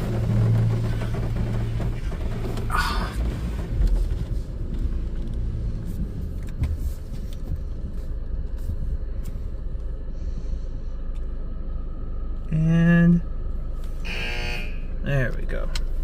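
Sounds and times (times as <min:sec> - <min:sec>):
car wash rumble: 0:00.0 - 0:16.0.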